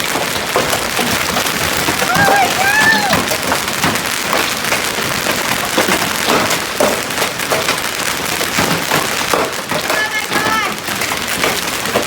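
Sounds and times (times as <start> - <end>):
hail clattering on hard surfaces: 0.0 - 12.0.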